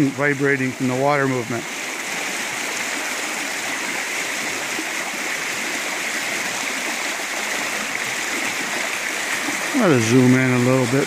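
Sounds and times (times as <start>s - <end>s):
water rushing over small waterfall: 0.0s - 11.0s.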